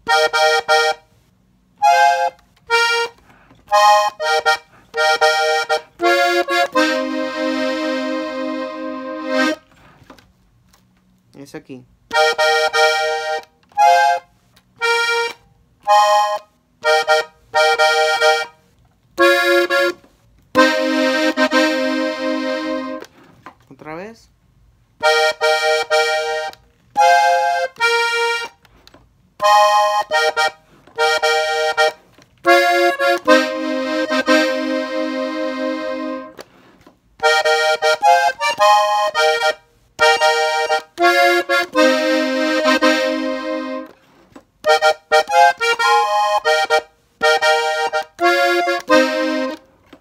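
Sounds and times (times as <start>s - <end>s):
button accordion melody: 0.0s - 1.1s, 1.8s - 9.7s, 12.1s - 18.6s, 19.2s - 23.1s, 25.0s - 28.7s, 29.4s - 36.4s, 37.2s - 44.0s, 44.6s - 49.7s.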